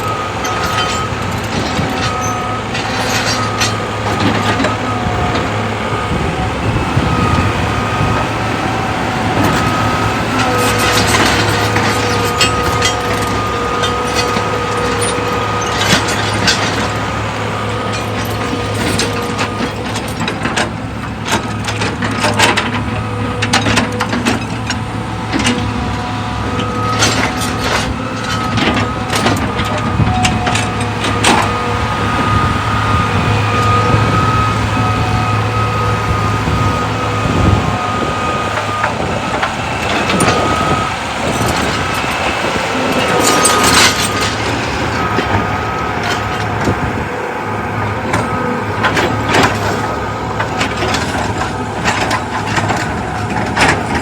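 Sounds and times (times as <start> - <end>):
machinery engine hum: 0.0 - 54.0.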